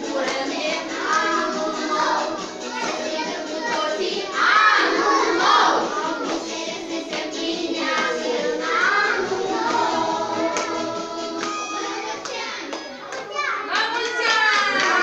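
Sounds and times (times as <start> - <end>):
children singing: 0.0 - 13.1
music: 0.0 - 15.0.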